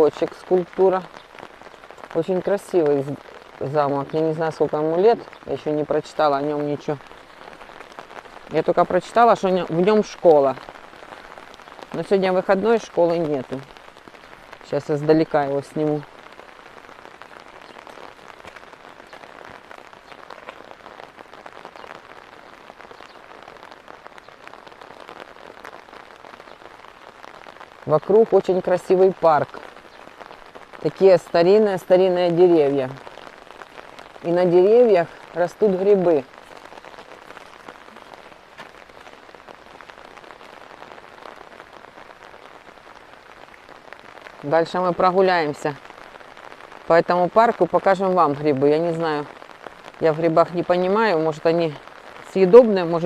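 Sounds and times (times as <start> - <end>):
raindrops hitting umbrella: 0.0 - 53.0
steady rain falling: 0.0 - 53.0.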